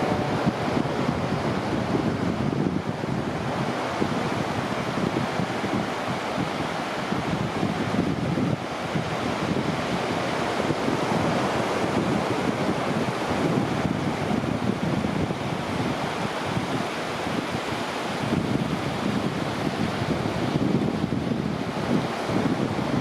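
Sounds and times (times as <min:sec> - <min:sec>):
ocean surf on beach: 0:00.0 - 0:23.0
wind buffeting microphone: 0:00.0 - 0:23.0.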